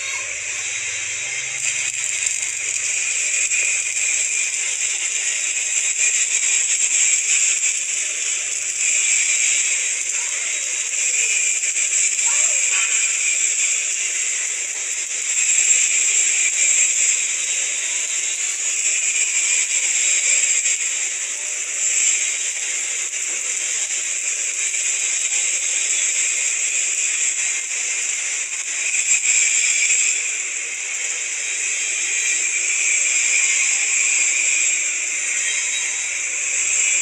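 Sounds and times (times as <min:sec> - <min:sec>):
welding arc crackling hiss: 0:00.0 - 0:37.0.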